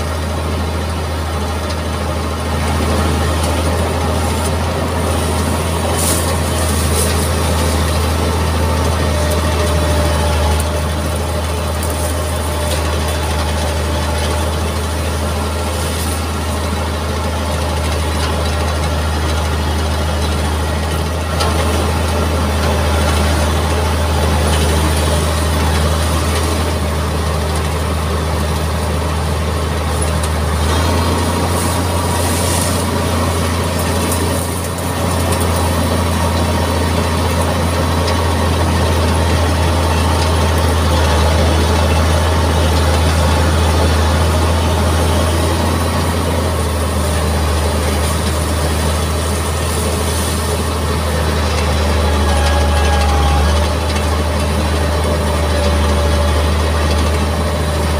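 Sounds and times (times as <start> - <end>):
diesel engine humming: 0.0 - 57.9.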